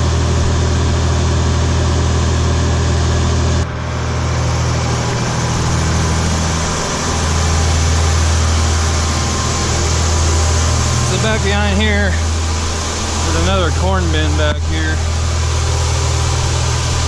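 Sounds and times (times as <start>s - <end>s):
tractor engine running steadily: 0.0s - 17.0s.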